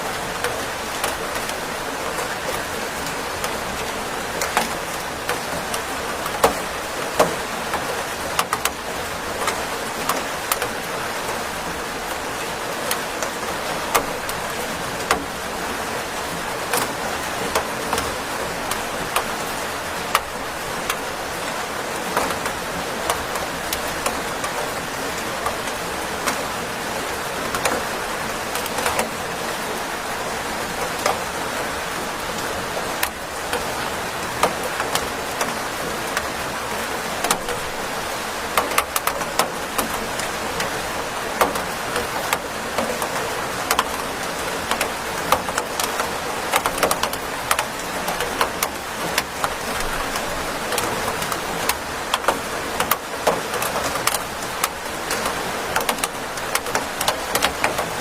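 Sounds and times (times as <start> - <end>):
steady rain with drop ticks: 0.0 - 58.0.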